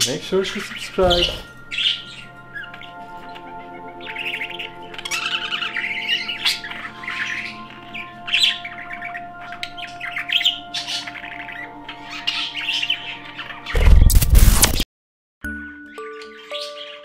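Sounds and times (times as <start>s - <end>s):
budgerigars chattering: 0.0s - 13.8s.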